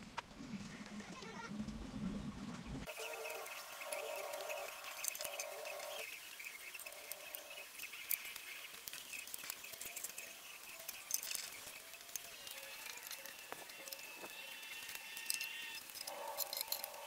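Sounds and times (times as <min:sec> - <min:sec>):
birds chirping: 0:02.8 - 0:17.0
insects chirping: 0:02.9 - 0:17.0.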